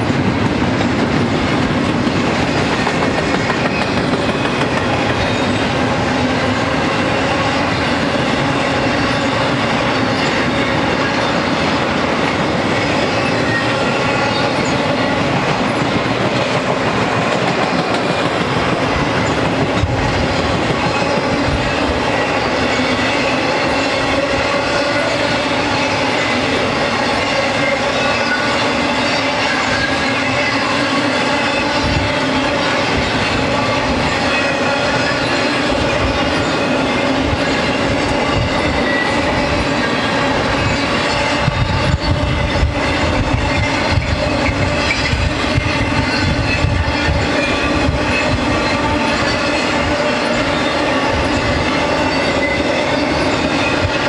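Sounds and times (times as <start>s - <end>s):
freight cars rolling on rails: 0.0s - 54.0s.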